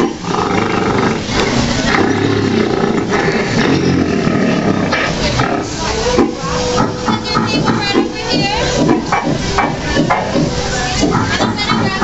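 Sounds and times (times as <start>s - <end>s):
recorded gorilla calls over speakers: 0.0s - 12.0s
chatter of diners: 1.2s - 12.0s.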